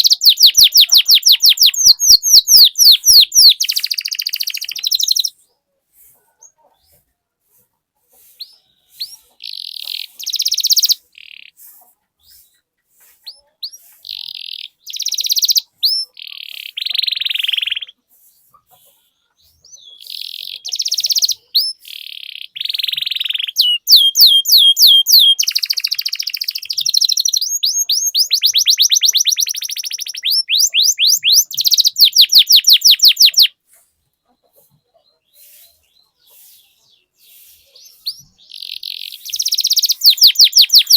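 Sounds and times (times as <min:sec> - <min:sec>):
canary singing: 0:00.0 - 0:05.6, 0:08.2 - 0:40.9.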